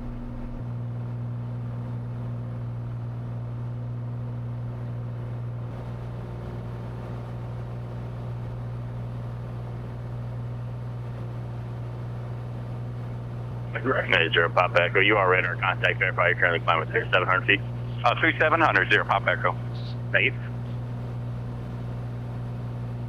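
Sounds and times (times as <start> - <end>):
light aircraft engine drone: 0.0 - 23.0.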